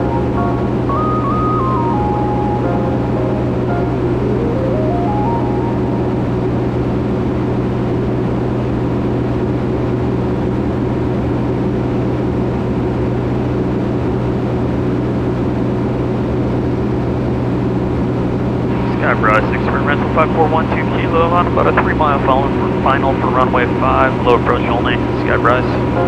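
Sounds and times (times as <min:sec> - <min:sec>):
aircraft engine droning in cabin: 0:00.0 - 0:26.0.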